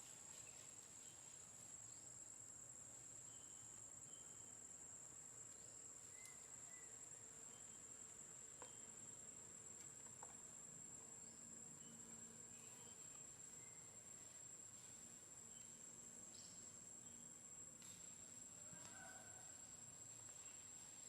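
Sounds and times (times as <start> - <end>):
faint insect drone: 0.0 - 21.0.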